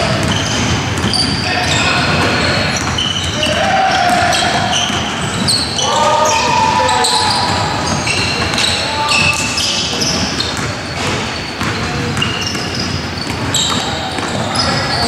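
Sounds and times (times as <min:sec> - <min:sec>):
basketball bouncing: 0:00.0 - 0:15.0
sneaker squeaks on floor: 0:00.0 - 0:15.0
voices in background: 0:01.1 - 0:15.0.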